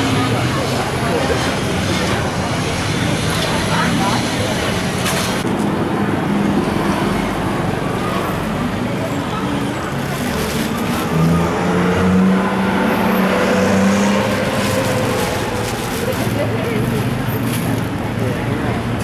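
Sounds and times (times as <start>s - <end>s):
road traffic noise: 0.0s - 19.0s
voices in background: 0.0s - 19.0s.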